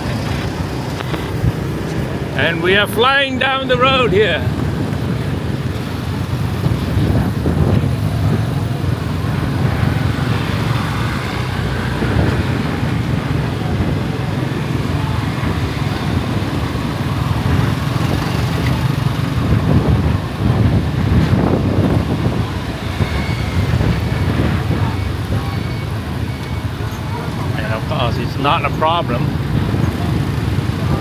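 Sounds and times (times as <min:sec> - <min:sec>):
wind rushing over microphone: 0:00.0 - 0:31.0
motorbike engine: 0:04.5 - 0:31.0.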